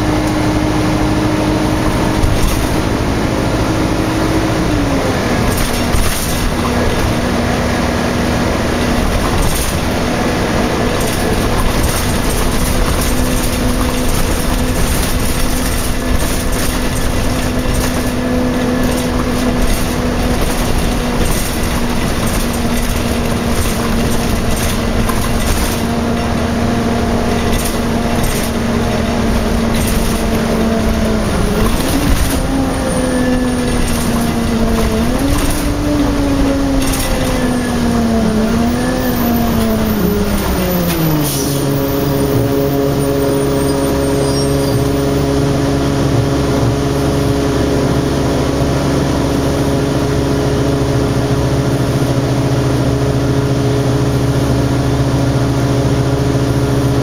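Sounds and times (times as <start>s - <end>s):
bus engine running: 0.0s - 57.0s.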